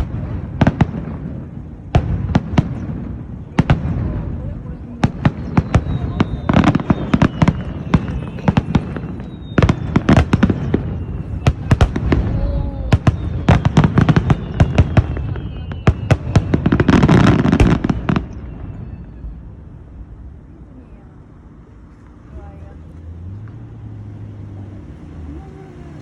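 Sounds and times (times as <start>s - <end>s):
fireworks cracking and banging: 0.0s - 20.9s.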